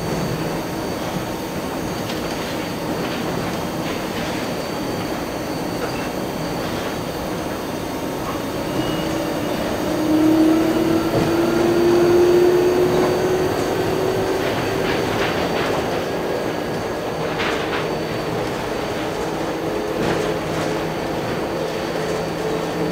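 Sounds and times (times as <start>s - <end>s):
monorail train rumble and whine: 0.0s - 22.9s.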